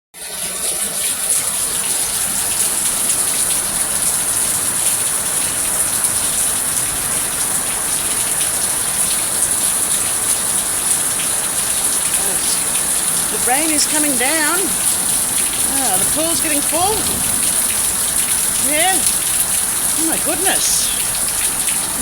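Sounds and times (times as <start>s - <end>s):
steady rain hissing: 0.3s - 22.0s
raindrops ticking: 2.2s - 22.0s.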